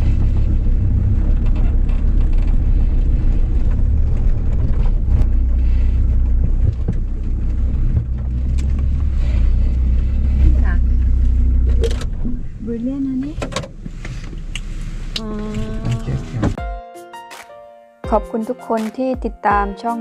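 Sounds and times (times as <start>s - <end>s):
car engine and tyre rumble: 0.0s - 16.6s.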